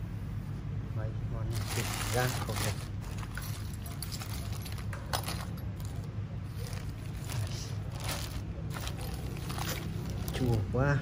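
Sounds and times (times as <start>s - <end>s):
steady low hum: 0.0s - 11.0s
metal tools clinking: 1.5s - 10.6s
plastic bag rustling: 1.5s - 10.7s.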